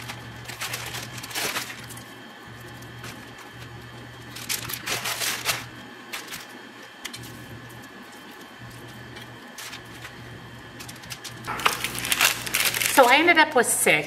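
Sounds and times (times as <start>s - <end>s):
tortillas and paper rustling: 0.0s - 13.8s
low steady hum: 0.0s - 14.0s.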